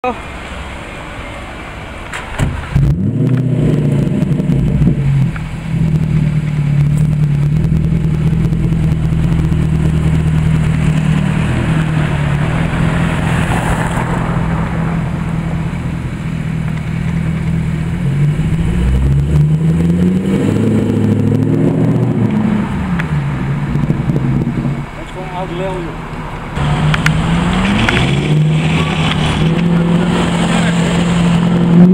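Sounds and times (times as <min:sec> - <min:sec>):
car engine starting and idling: 0:00.0 - 0:31.9.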